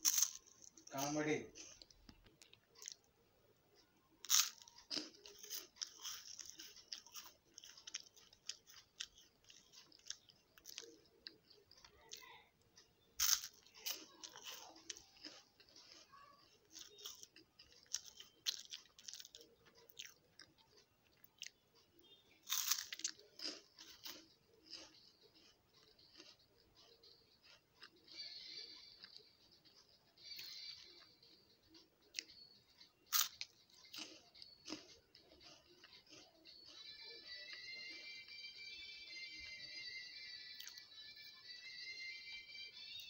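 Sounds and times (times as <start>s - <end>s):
crunchy chewing: 0.0s - 3.1s, 3.8s - 38.6s, 40.5s - 40.9s.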